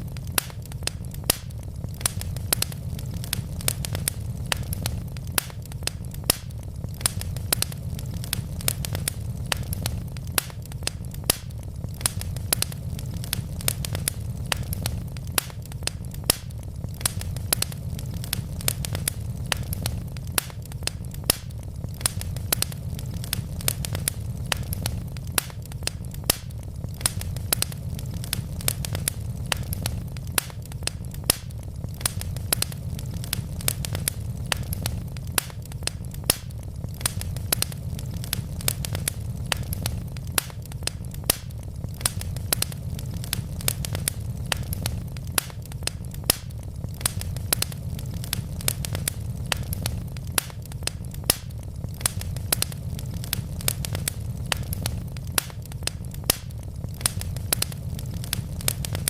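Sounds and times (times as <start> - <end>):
low fire rumble: 0.0 - 59.0
wood logs crackling in fireplace: 0.0 - 59.0.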